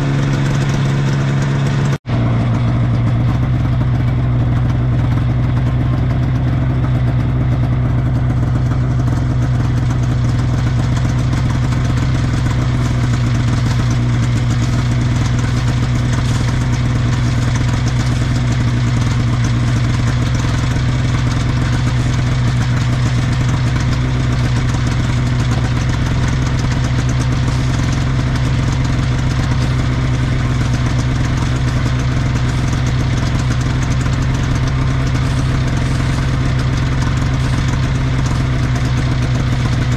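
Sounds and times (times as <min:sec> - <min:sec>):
snowmobile engine idling: 0:00.0 - 0:39.9.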